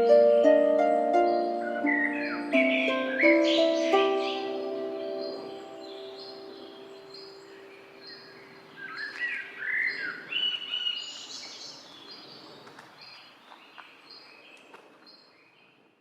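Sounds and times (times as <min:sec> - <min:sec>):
songbirds chirping and warbling: 0:00.0 - 0:16.0.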